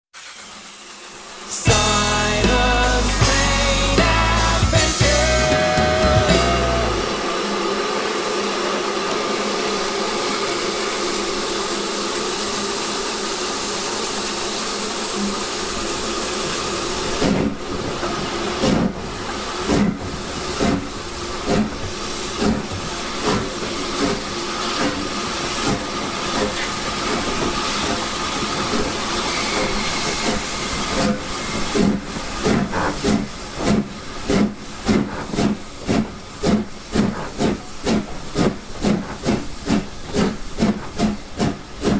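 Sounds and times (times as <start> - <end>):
steam hissing: 0.1 - 41.9
steam locomotive exhaust beats: 0.2 - 41.9.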